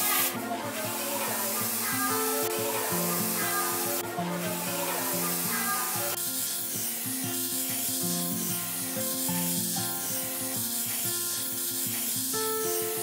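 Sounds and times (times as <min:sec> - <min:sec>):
background music with held notes: 0:00.0 - 0:13.0
rhythmic rubbing: 0:00.0 - 0:13.0.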